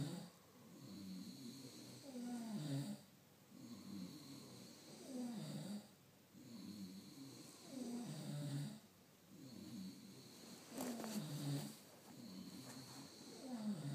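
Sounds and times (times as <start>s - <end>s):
man snoring: 0.0s - 8.8s, 9.4s - 13.9s.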